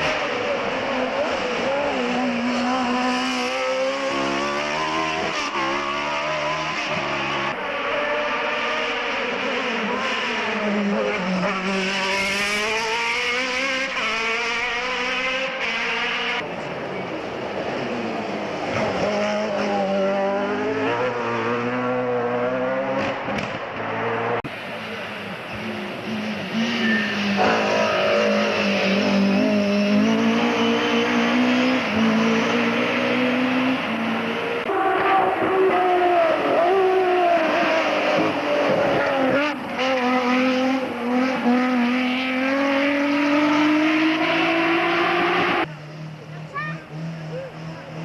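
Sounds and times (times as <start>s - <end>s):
racing car engine at high revs: 0.0s - 48.0s.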